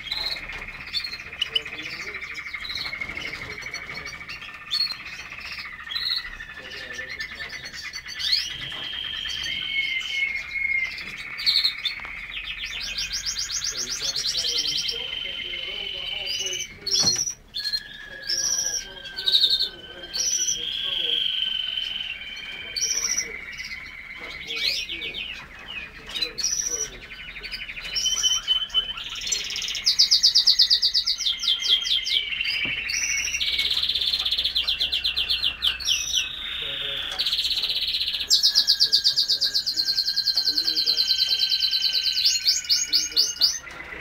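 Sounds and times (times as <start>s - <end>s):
finches singing: 0.0s - 44.0s.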